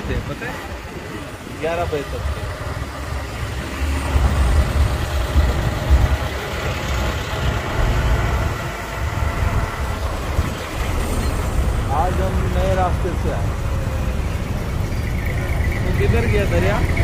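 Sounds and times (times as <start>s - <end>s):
motorbike engine rumble: 0.0s - 17.0s
road traffic: 0.0s - 17.0s.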